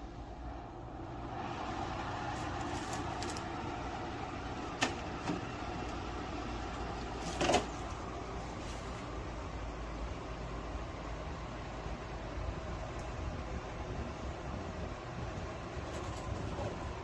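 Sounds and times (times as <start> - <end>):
air conditioner fan hum: 0.0 - 17.0.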